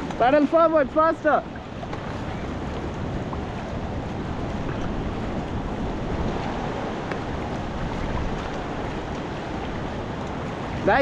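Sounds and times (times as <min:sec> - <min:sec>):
whitewater rushing in river rapid: 0:00.0 - 0:11.0
wind buffeting microphone: 0:00.0 - 0:11.0.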